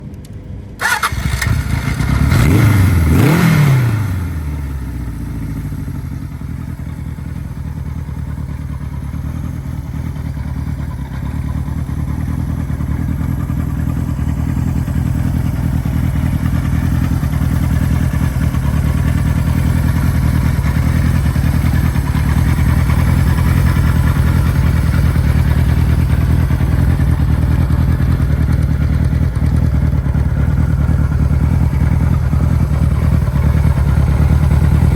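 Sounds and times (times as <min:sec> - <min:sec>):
motorcycle engine starting and revving: 0:00.7 - 0:34.9.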